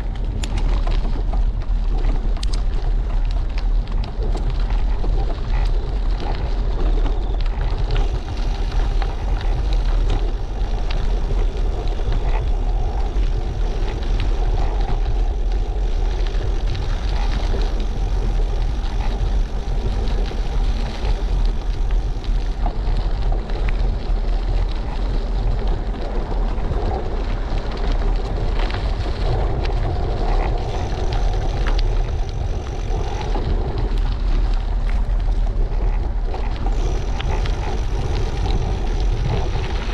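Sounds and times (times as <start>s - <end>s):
tyre road noise: 0.0s - 39.9s
wind buffeting microphone: 0.0s - 39.9s.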